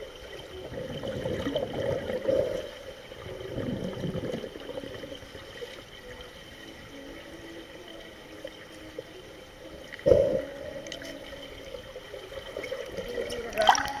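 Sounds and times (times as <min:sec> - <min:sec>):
faint water trickling: 0:00.0 - 0:14.0
muffled underwater hum: 0:00.0 - 0:14.0.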